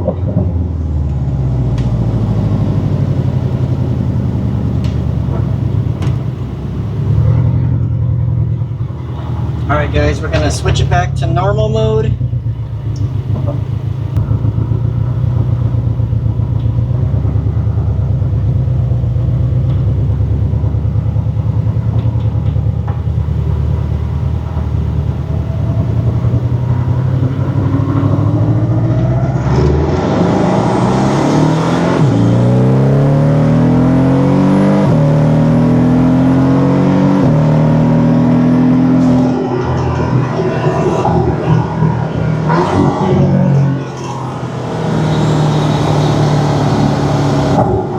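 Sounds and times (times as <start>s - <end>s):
car engine accelerating and upshifting: 0.0s - 47.9s.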